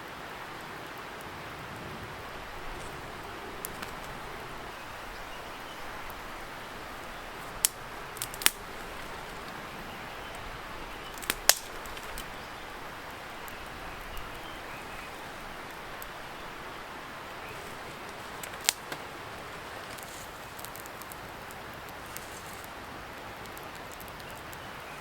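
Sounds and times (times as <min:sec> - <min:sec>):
campfire crackling: 0:00.0 - 0:25.0
distant river hiss: 0:00.0 - 0:25.0
fire sharp pops: 0:02.2 - 0:22.7.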